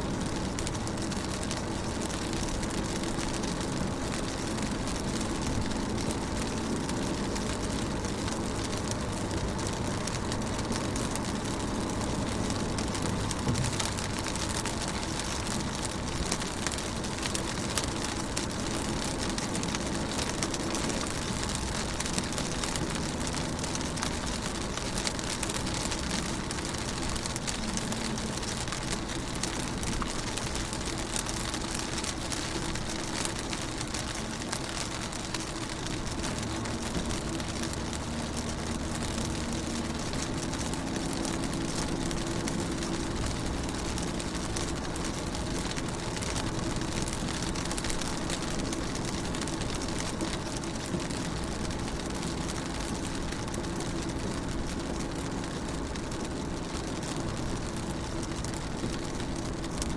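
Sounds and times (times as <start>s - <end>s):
rain on car window: 0.0s - 59.9s.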